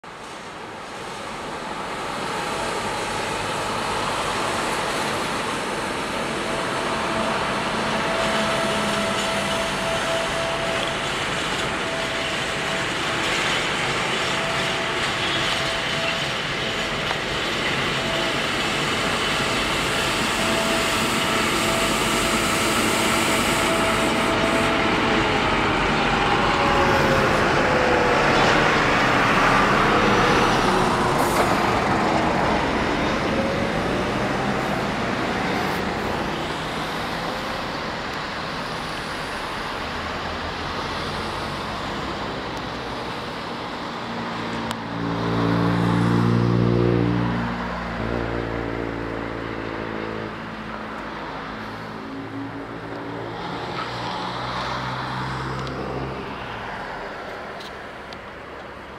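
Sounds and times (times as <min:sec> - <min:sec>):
freight train rolling past: 0:00.1 - 0:58.9.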